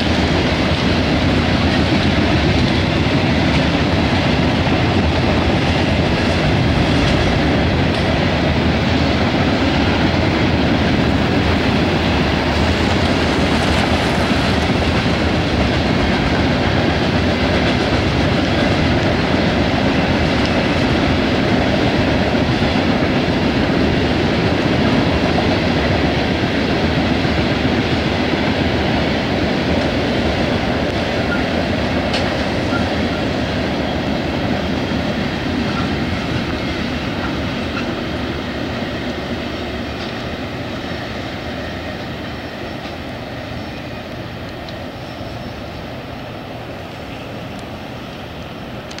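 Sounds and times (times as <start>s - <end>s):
train cars rolling past: 0.0s - 49.0s.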